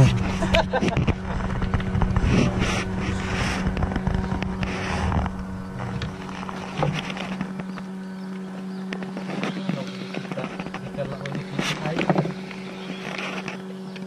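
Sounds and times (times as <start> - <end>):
boat motor humming: 0.0 - 14.0
fishing rods knocking and rustling: 0.6 - 14.0.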